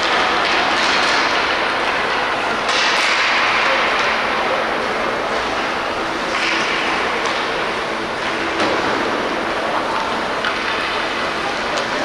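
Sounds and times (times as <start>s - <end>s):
hockey sticks knocking: 0.0s - 12.0s
skates scraping ice: 0.0s - 12.0s.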